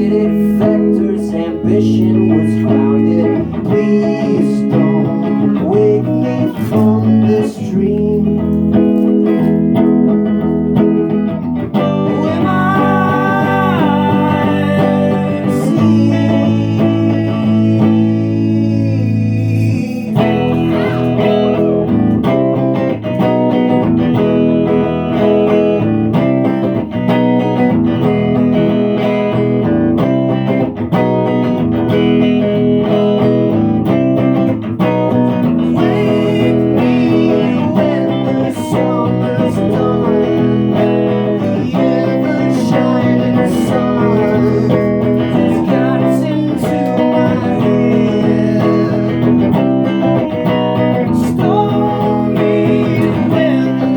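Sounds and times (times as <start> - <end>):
layered electric guitar: 0.0 - 53.9.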